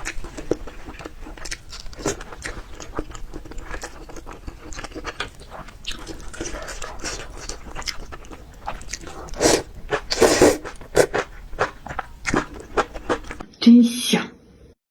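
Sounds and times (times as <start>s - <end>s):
person chewing crunchy peppers: 0.0s - 13.4s.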